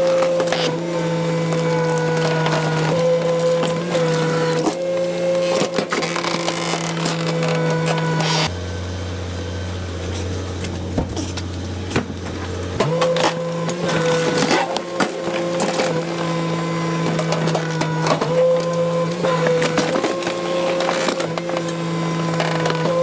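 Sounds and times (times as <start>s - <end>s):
rubbish snapping and cracking: 0.0s - 8.5s, 10.1s - 23.0s
hydraulic compactor droning: 0.0s - 23.0s.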